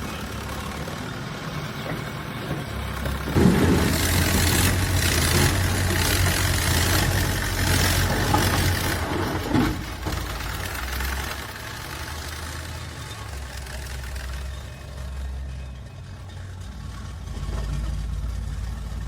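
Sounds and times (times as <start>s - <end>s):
diesel engine idling and revving: 0.0s - 19.0s.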